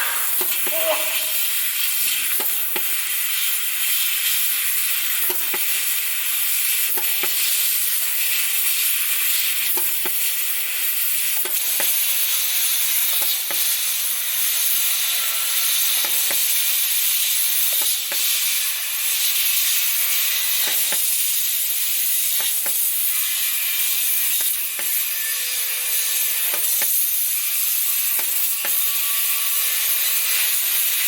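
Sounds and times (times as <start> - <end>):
laser cutter hissing: 0.0 - 31.0.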